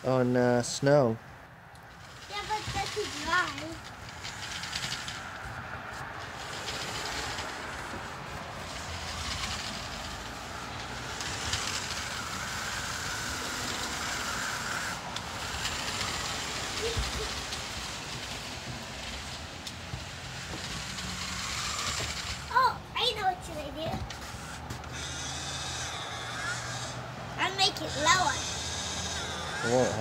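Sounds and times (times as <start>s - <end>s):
toy car electric motors whirring: 1.8s - 30.0s
wheels churning through snow: 2.0s - 26.8s, 27.4s - 30.0s.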